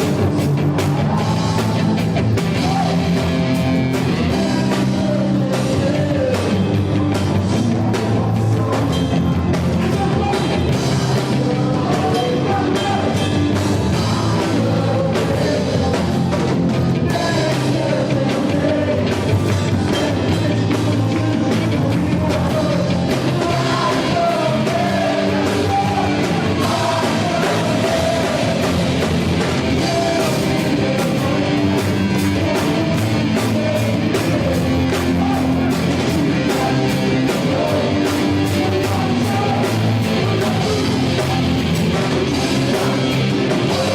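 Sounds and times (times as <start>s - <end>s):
live rock band playing: 0.0s - 43.9s
person singing: 0.0s - 43.9s.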